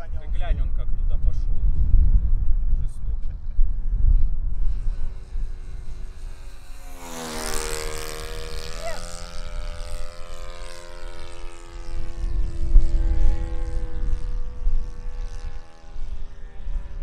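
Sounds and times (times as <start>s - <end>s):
model airplane droning whine: 0.0s - 17.0s.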